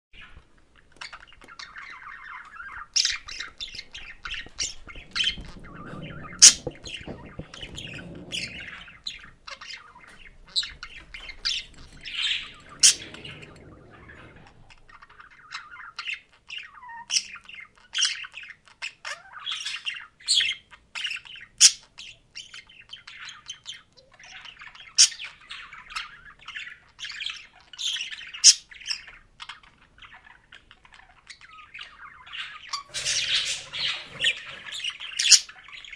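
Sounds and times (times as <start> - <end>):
budgerigars warbling and chattering: 0.2 - 35.9.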